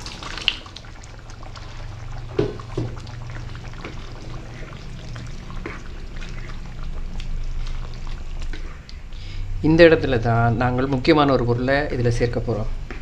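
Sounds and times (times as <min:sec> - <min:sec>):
steady low hum: 0:00.7 - 0:13.0.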